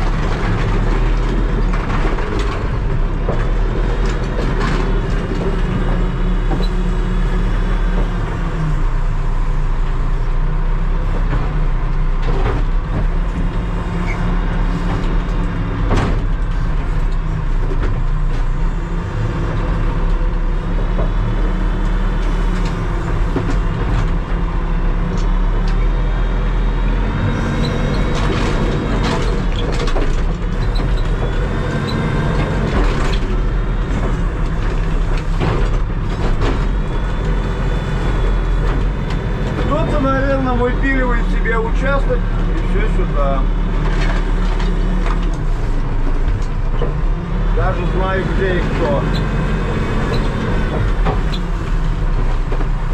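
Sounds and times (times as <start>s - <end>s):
knocks and clanks: 0.0s - 7.0s, 11.0s - 20.2s, 20.9s - 24.6s, 27.2s - 42.7s, 43.5s - 52.9s
diesel engine running: 0.0s - 52.9s.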